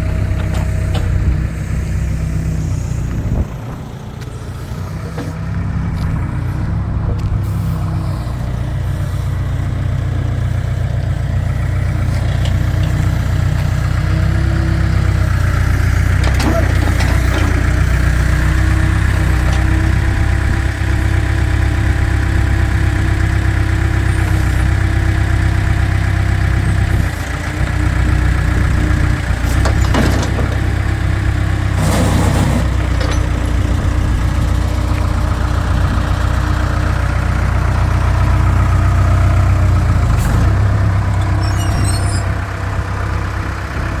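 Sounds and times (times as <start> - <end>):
backhoe diesel engine running: 0.0 - 44.0.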